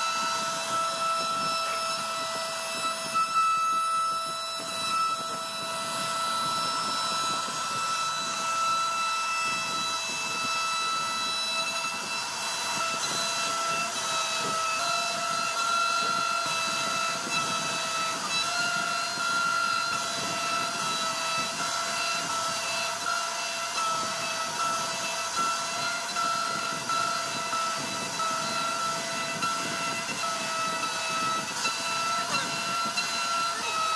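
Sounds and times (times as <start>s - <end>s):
hiss of cutting wood: 0.0s - 33.9s
router spindle whining: 0.0s - 33.9s.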